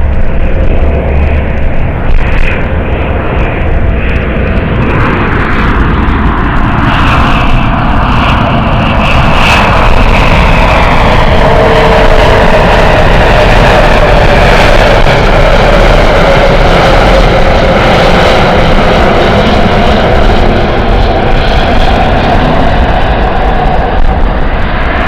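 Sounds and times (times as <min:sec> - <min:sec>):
jet engines whining and rushing: 0:00.0 - 0:25.0.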